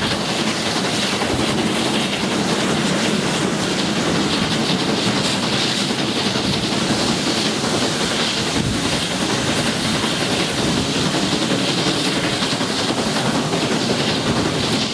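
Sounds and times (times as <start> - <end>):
steam locomotive working: 0.0 - 14.9
train coaches running on rails: 0.0 - 14.9.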